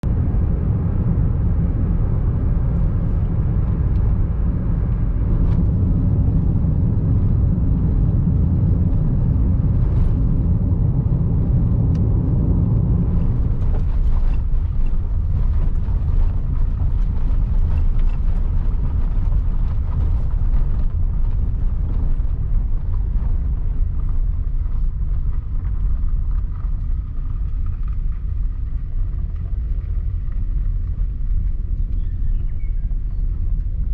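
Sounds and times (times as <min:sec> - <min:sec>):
vehicle rumble: 0:00.0 - 0:33.9.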